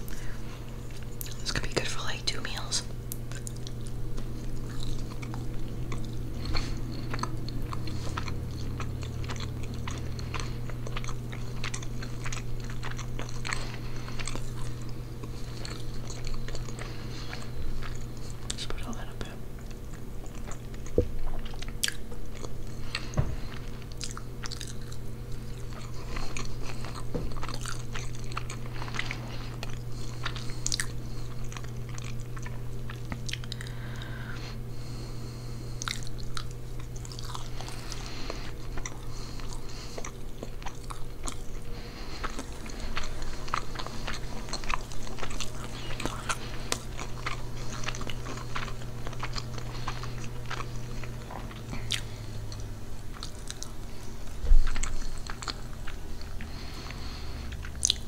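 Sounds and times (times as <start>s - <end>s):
low hum: 0.0s - 58.0s
chewing with wet mouth clicks: 0.9s - 2.0s, 2.6s - 34.1s, 34.8s - 58.0s.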